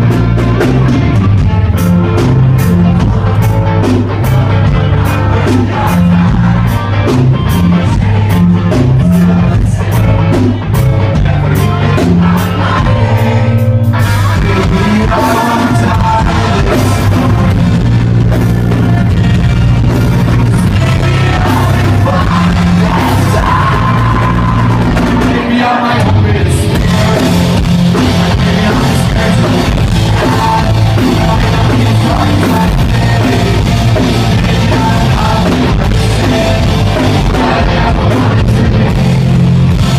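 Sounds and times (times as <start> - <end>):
bass guitar: 0.0 - 39.9
drum kit: 0.0 - 39.9
electric guitars: 0.0 - 39.9
person singing: 2.9 - 17.8, 18.7 - 39.9.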